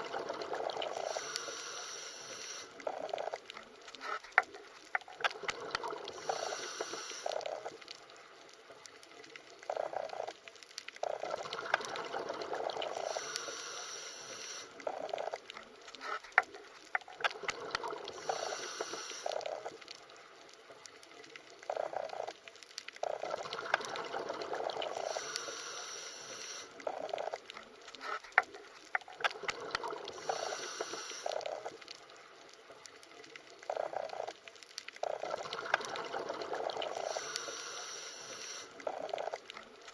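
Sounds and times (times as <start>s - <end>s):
bubbling gurgling water: 0.0s - 1.6s, 2.7s - 8.2s, 8.9s - 13.6s, 14.7s - 20.1s, 20.8s - 25.6s, 26.4s - 39.9s.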